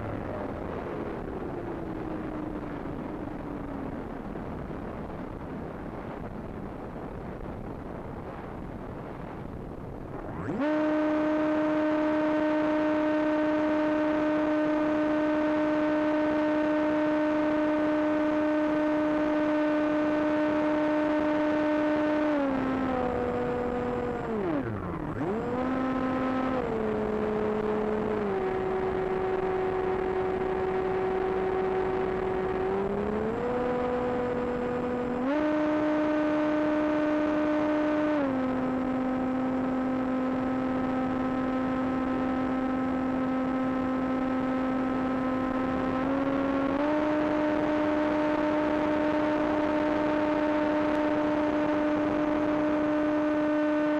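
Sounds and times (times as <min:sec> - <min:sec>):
electric motor and propeller whine: 0:00.0 - 0:06.8, 0:10.0 - 0:53.9.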